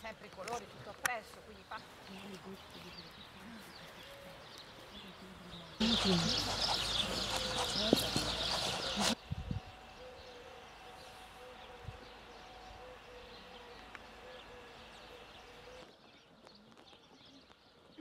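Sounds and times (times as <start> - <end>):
bird chirps: 2.0 - 18.0.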